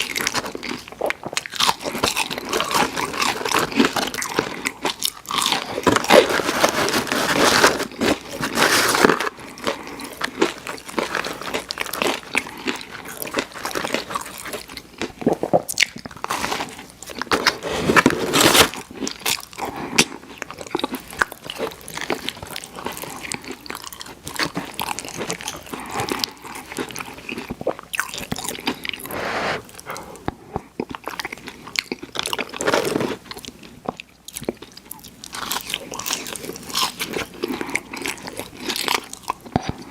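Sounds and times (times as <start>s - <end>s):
crunchy bites and chewing: 0.0s - 29.1s, 30.8s - 39.9s.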